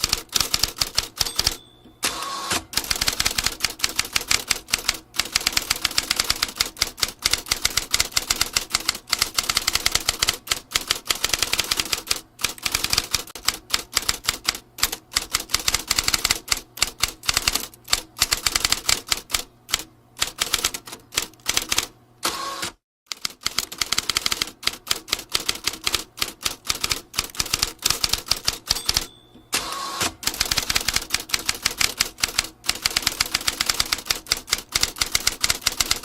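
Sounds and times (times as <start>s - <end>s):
typewriter keys clacking: 0.0s - 1.9s, 2.8s - 21.8s, 23.1s - 29.5s, 30.2s - 36.0s.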